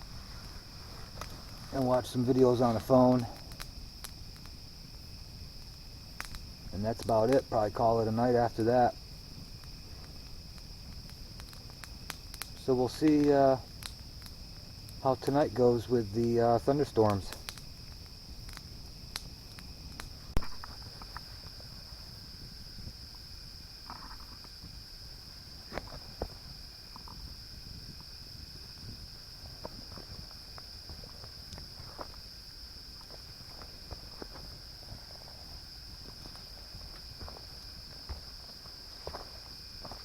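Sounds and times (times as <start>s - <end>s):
campfire popping and crackling: 0.0s - 40.0s
crickets chirping: 0.0s - 40.0s.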